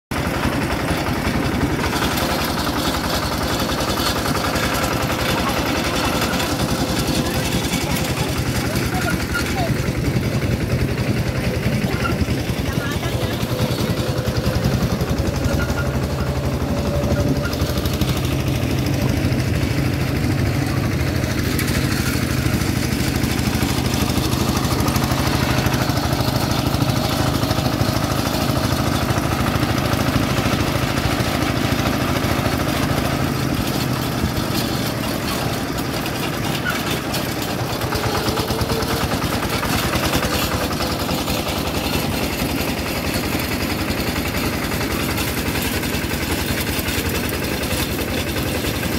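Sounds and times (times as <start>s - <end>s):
diesel engine chugging: 0.1s - 48.9s.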